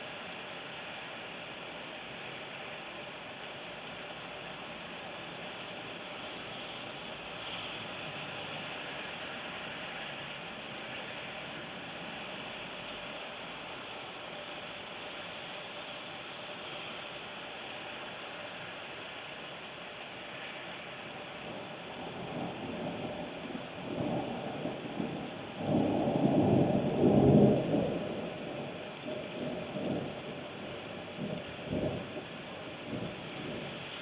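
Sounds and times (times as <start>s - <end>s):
rain hiss: 0.0s - 34.0s.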